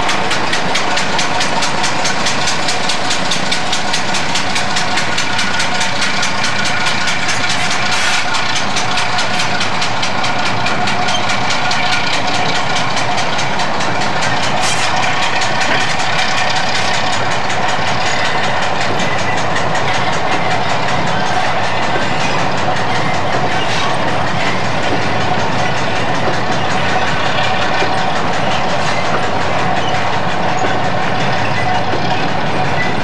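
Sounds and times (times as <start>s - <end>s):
diesel locomotive engine running: 0.0s - 33.0s.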